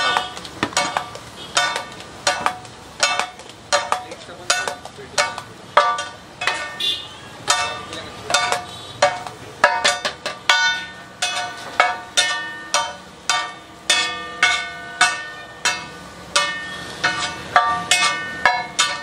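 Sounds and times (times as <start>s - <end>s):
metal spatula clanging on griddle: 0.0s - 19.0s.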